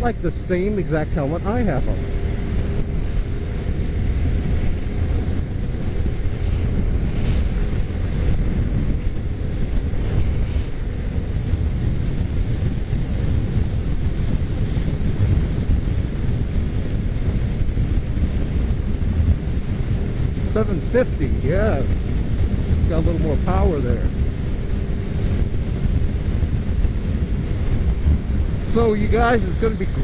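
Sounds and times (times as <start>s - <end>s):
road noise: 0.0s - 30.0s
wind rush on microphone: 0.0s - 30.0s.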